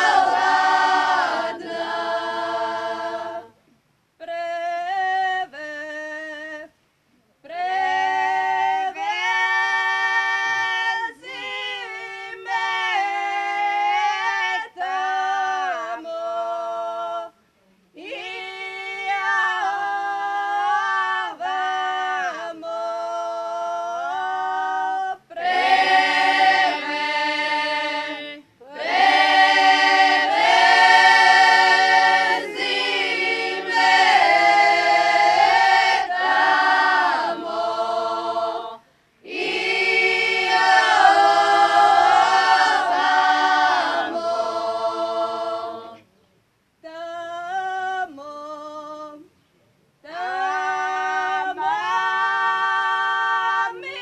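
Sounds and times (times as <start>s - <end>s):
women singing a cappella: 0.0s - 6.8s, 7.4s - 46.1s, 46.8s - 49.4s, 50.0s - 54.0s.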